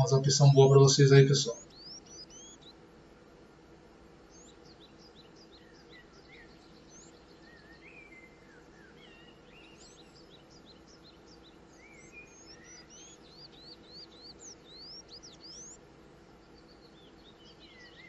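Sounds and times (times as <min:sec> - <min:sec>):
birds chirping: 0:00.0 - 0:18.0
low background hum: 0:00.0 - 0:18.0.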